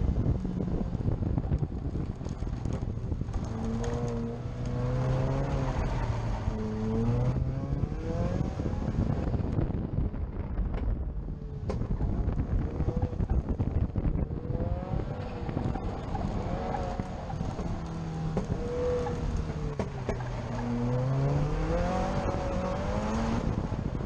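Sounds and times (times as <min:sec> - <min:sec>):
car engine revving: 0:00.0 - 0:24.0
wind buffeting microphone: 0:00.0 - 0:24.0.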